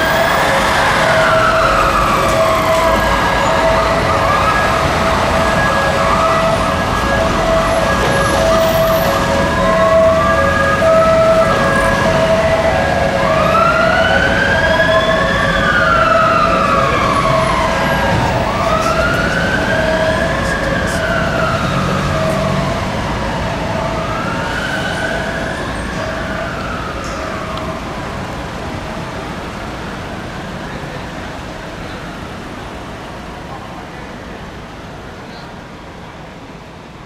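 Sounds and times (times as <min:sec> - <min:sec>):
fire engine siren wailing: 0:00.0 - 0:37.0
street traffic: 0:00.0 - 0:37.0.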